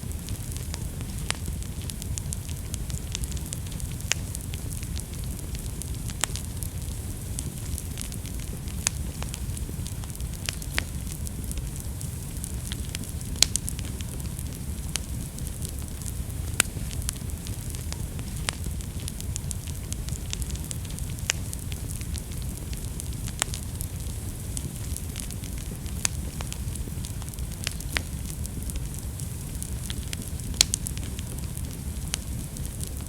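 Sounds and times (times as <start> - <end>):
fire crackling and popping: 0.0 - 33.0
fire flames rumbling and hissing: 0.0 - 33.0.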